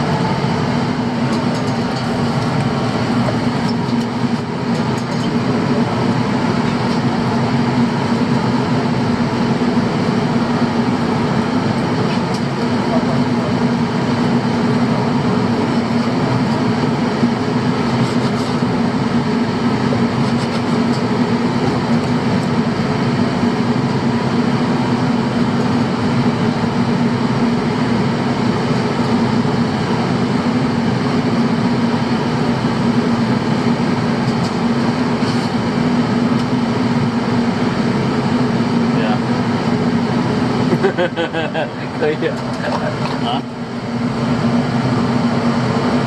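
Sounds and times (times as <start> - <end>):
boat engine droning: 0.0 - 46.0.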